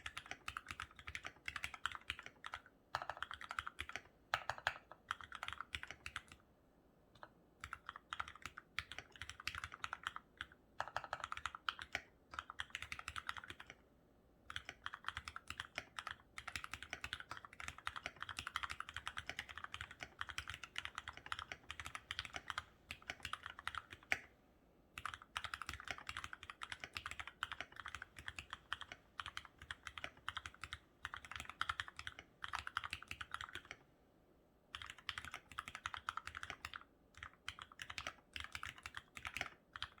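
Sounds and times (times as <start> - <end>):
mechanical keyboard typing: 0.0 - 6.4, 7.2 - 13.8, 14.5 - 24.3, 25.0 - 33.8, 34.7 - 40.0.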